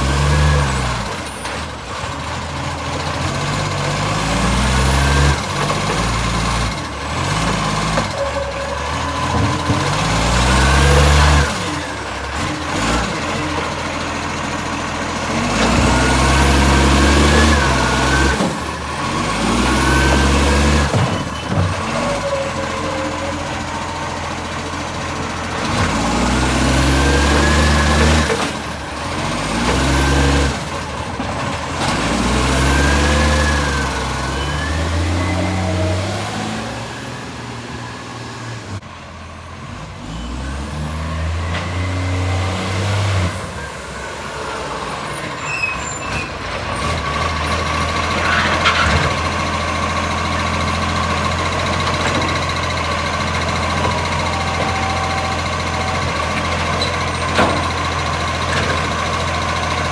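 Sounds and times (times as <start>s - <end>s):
diesel engine revving and idling: 0.0s - 59.9s.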